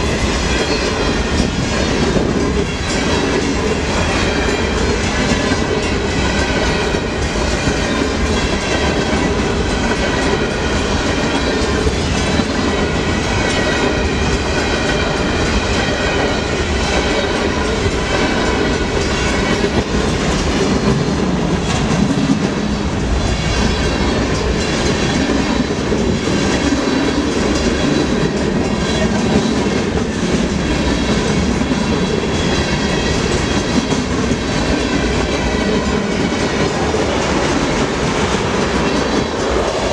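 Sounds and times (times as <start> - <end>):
freight train rumbling: 0.0 - 39.9
wheels clacking over rails: 0.0 - 39.9.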